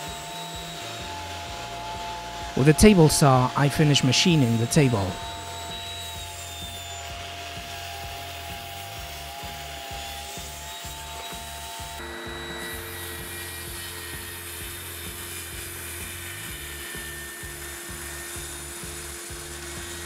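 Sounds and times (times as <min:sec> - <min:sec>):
table saw cutting: 0:00.0 - 0:20.0.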